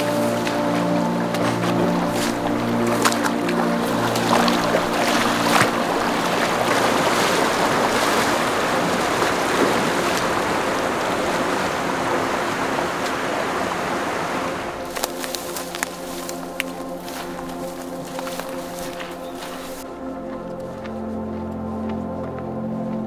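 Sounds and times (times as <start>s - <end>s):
boot splashing through water: 0.0s - 19.9s
creek water rushing: 0.0s - 20.2s.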